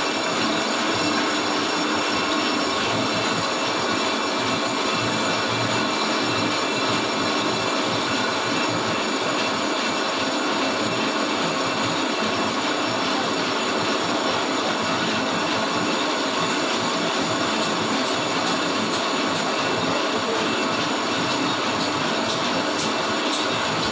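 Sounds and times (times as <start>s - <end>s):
metal lathe machining: 0.0s - 23.9s.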